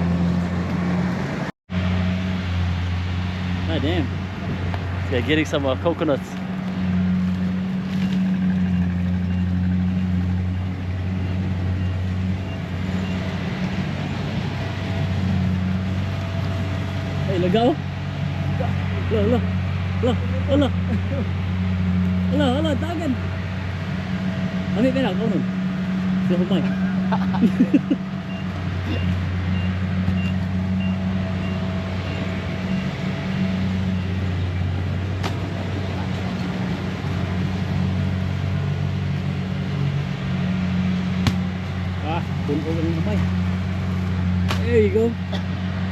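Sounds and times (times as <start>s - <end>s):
engine humming: 0.0s - 45.9s.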